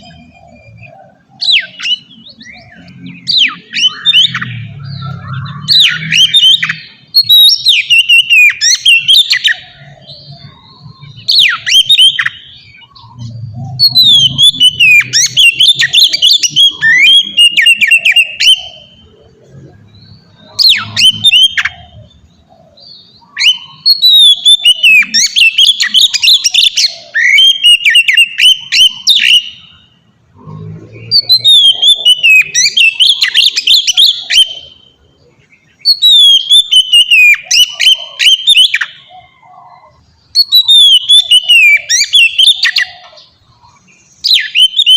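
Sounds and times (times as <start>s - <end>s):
bird singing whistles and chatter: 0.0s - 44.9s.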